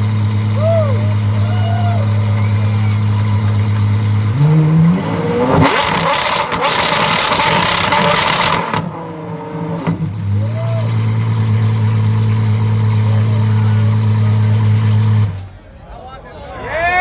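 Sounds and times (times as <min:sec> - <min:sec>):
car engine idling and revving: 0:00.0 - 0:15.7.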